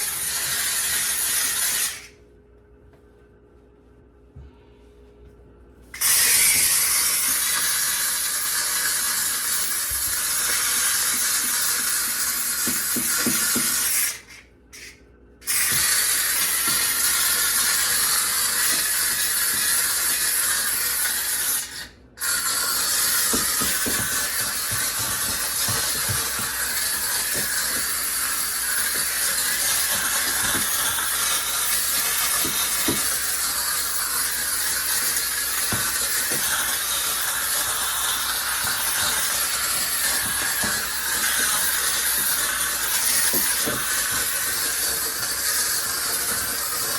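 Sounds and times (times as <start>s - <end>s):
steam cleaner hissing: 0.0s - 2.1s, 6.0s - 46.9s.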